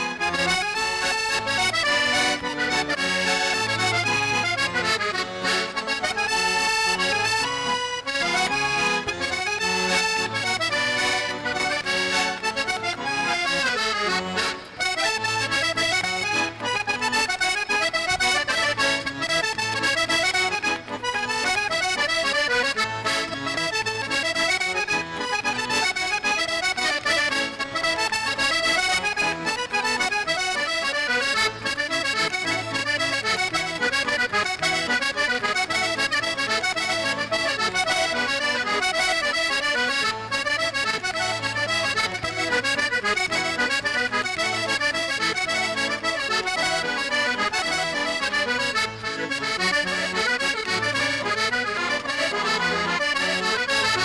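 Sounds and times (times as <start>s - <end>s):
accordion melody: 0.0s - 54.0s.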